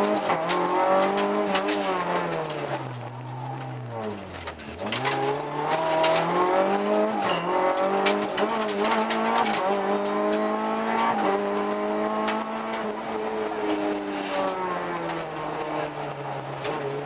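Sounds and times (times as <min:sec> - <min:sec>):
rally car engine revving: 0:00.0 - 0:17.0
sharp clicks and knocks: 0:00.0 - 0:17.0.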